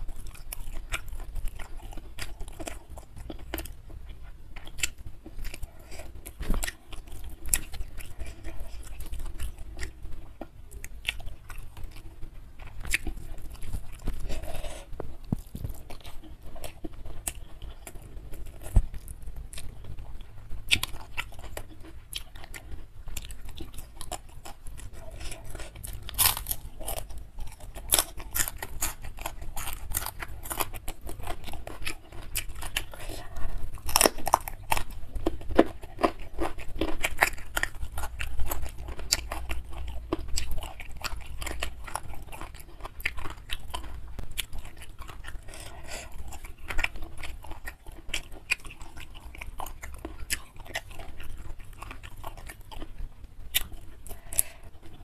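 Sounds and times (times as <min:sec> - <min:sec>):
close chewing: 0:00.0 - 0:55.0.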